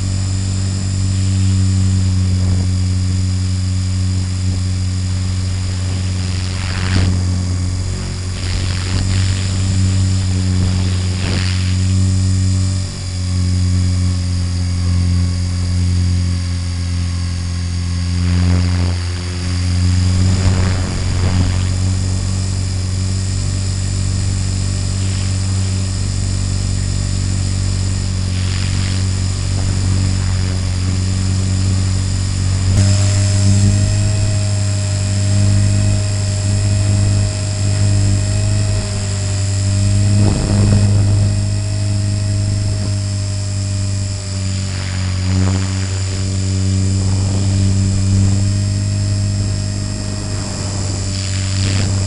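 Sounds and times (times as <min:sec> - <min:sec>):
rc helicopter motor droning: 0:00.0 - 0:52.0.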